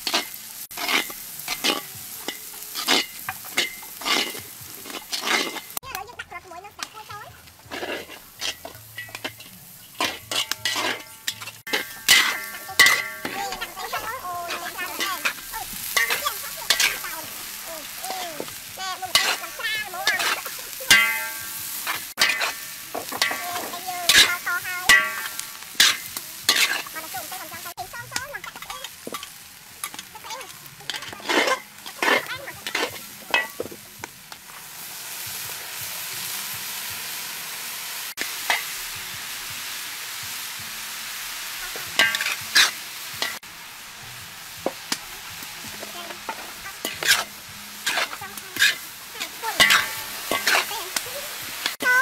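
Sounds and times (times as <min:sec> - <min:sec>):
metal spatula scraping a wok: 0:00.0 - 0:05.8, 0:06.8 - 0:36.4, 0:41.5 - 0:43.4, 0:44.7 - 0:52.0
sizzle of liquid in hot wok: 0:00.0 - 0:52.0.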